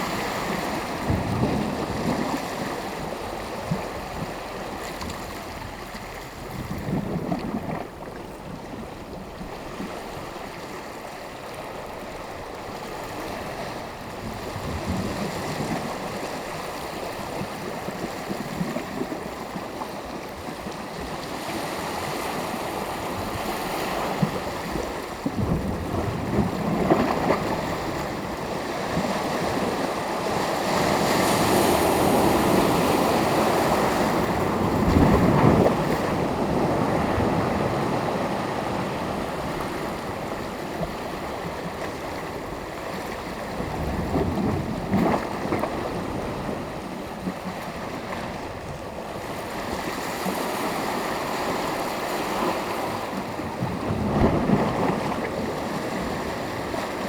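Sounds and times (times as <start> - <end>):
wind noise on microphone: 0.0 - 10.8, 12.3 - 57.0
waves washing onto shore: 0.0 - 57.0.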